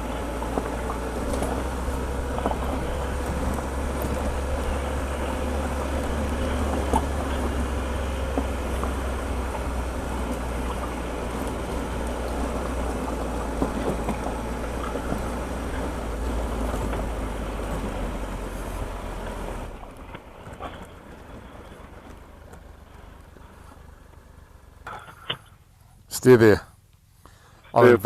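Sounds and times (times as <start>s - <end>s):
motorcycle engine: 0.0s - 25.7s.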